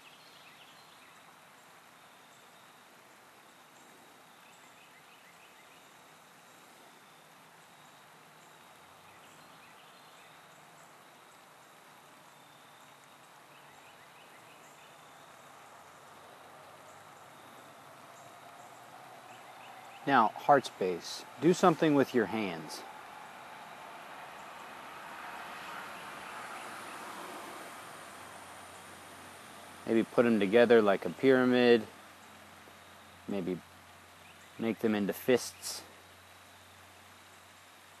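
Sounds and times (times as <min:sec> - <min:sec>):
low even hiss: 0:00.0 - 0:38.0.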